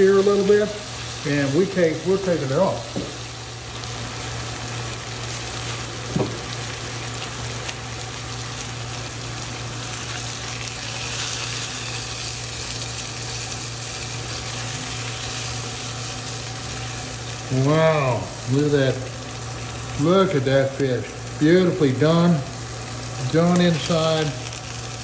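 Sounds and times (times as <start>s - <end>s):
fish sizzling in a skillet: 0.0s - 25.0s.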